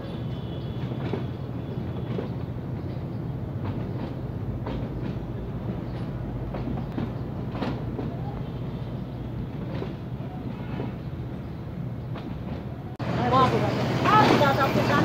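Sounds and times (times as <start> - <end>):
train coaches rumbling past: 0.0 - 15.0
wheels clacking over rail joints: 0.0 - 15.0.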